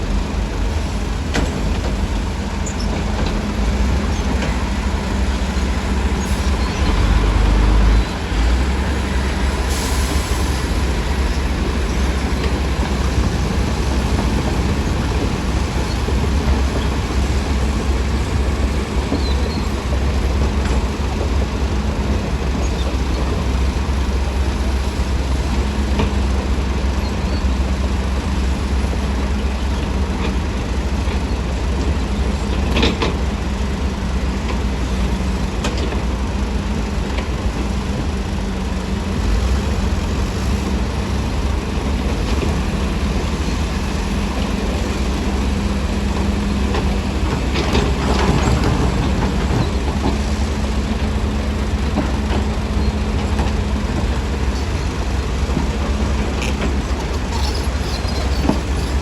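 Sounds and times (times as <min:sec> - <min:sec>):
diesel machinery engine rumble: 0:00.0 - 0:59.0.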